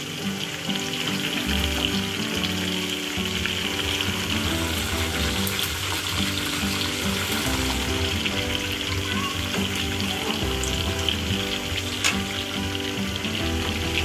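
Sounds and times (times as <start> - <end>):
background music: 0.0 - 14.0
chicken deep-frying in oil: 0.0 - 14.0.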